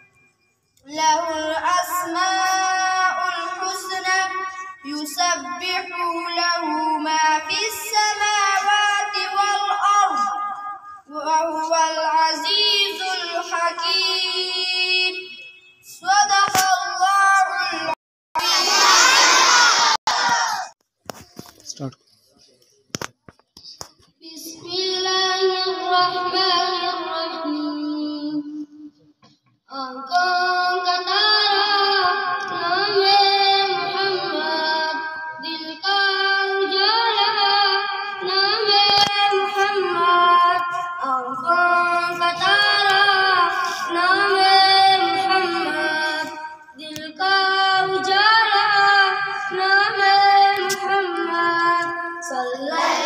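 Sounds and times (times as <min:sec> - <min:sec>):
boy singing into a microphone: 0:00.8 - 0:18.5, 0:24.2 - 0:29.0, 0:29.7 - 0:53.0.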